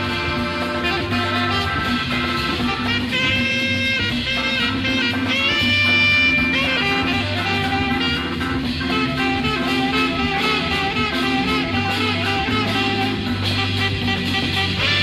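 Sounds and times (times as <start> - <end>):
jazz rock band playing: 0.0 - 15.0.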